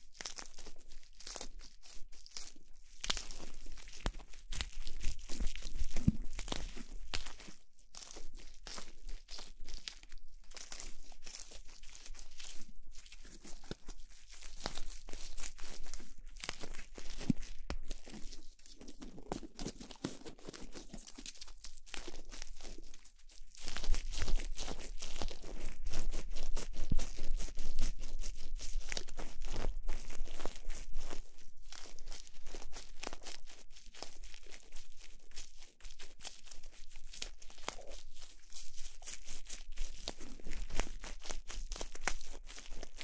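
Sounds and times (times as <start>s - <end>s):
crinkling and crackling: 0.0s - 43.0s.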